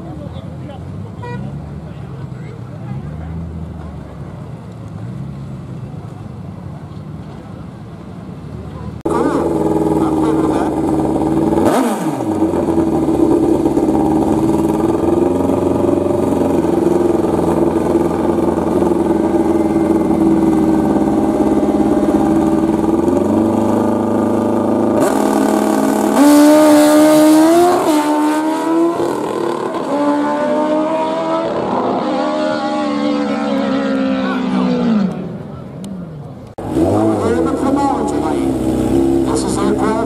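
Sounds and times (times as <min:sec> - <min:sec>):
motorcycle engines revving: 0:00.0 - 0:40.0.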